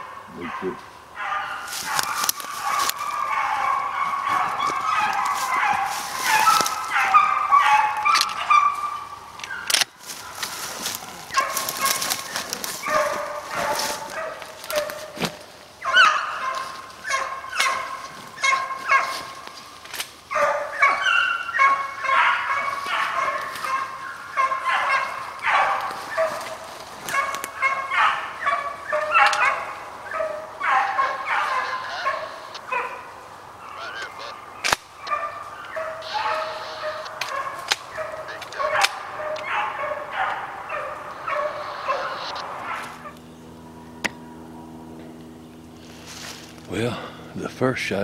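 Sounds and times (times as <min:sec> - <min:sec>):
hounds baying: 0:00.0 - 0:47.7.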